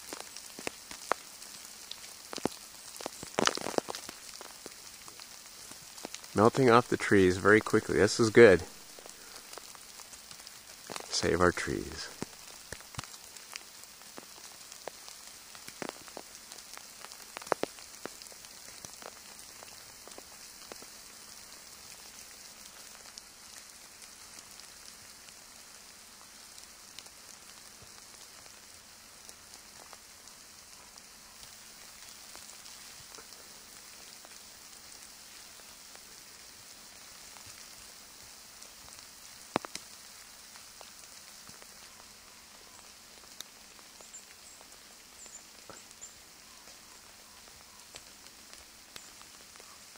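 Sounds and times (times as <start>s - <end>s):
melting snow dripping: 0.0s - 49.9s.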